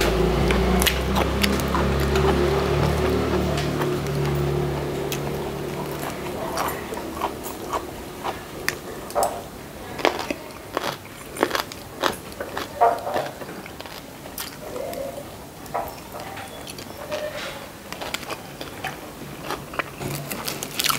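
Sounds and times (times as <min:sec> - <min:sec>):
person chewing crunchy food: 0:00.0 - 0:20.9.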